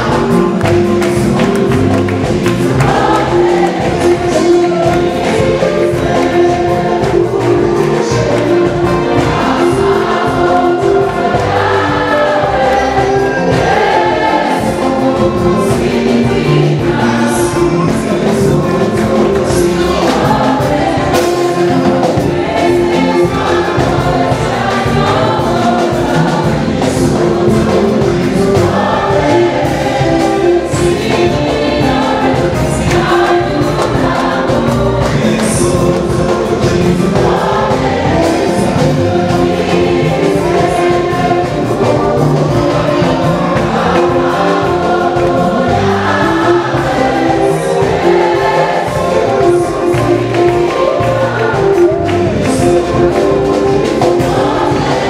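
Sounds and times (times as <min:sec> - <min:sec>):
gospel choir singing: 0:00.0 - 0:55.0
instrumental backing: 0:00.0 - 0:55.0.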